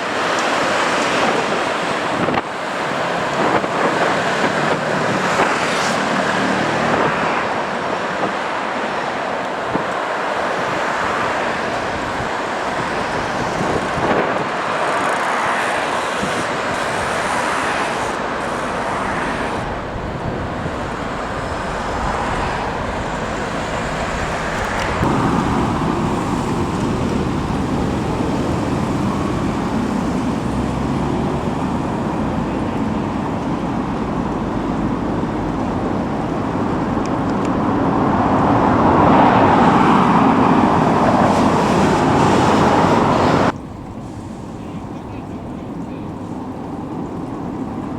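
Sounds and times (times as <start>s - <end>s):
road traffic noise: 0.0s - 47.9s.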